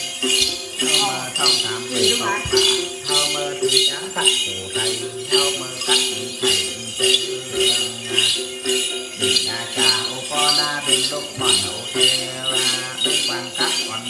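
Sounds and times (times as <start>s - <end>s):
jingle bells shaken: 0.0s - 14.0s
music with repeating melody: 0.0s - 14.0s.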